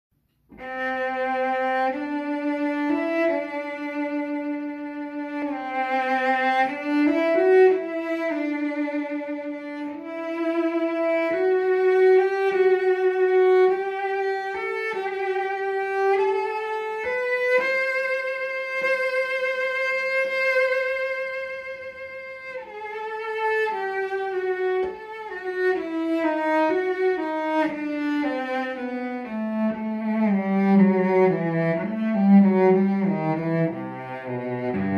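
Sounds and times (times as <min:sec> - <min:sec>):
cello bowed melody: 0:00.3 - 0:34.9.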